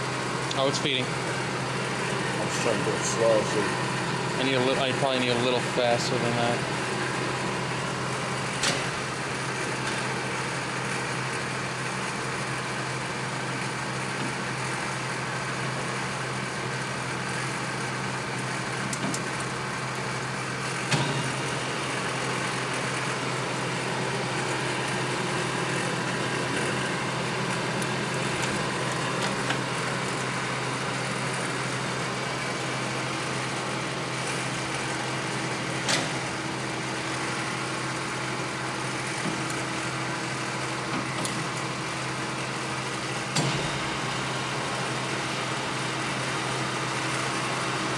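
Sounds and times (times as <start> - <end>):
lathe motor and gearbox hum: 0.0 - 47.9.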